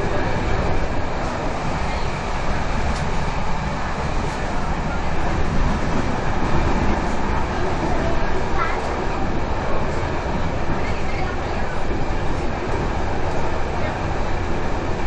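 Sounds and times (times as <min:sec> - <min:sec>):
train carriage rumble: 0:00.0 - 0:15.0
train wheels rolling on rails: 0:00.0 - 0:15.0.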